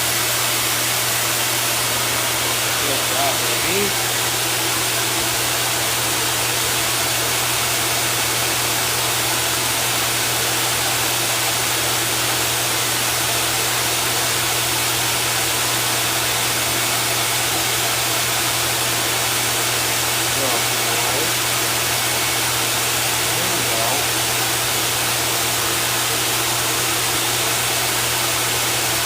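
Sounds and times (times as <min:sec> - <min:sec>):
machine hiss and hum: 0:00.0 - 0:29.0.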